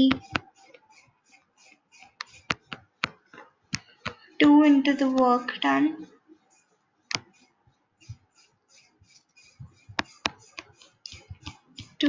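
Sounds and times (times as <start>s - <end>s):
stylus scratching on tablet screen: 0.0s - 12.0s.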